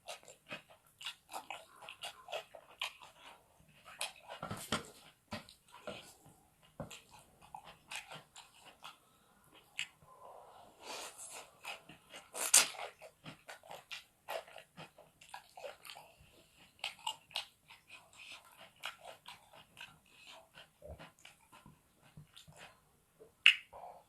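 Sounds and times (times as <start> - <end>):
wet chewing and mouth smacks: 0.0 - 10.0, 10.9 - 24.0.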